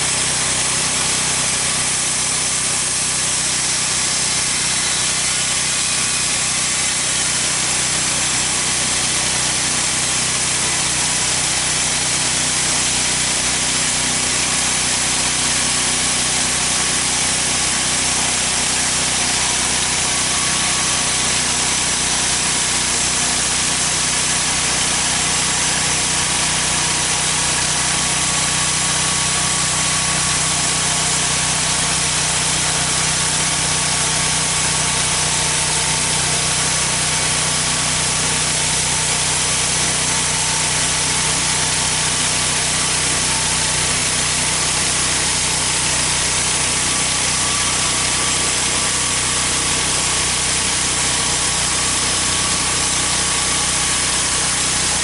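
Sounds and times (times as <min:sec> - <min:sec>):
band saw cutting log: 0:00.0 - 0:55.0
band saw drive running: 0:00.0 - 0:55.0.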